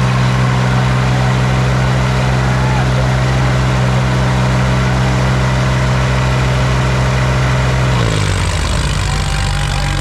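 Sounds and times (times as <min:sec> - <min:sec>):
tractor diesel engines running hard: 0:00.0 - 0:10.0.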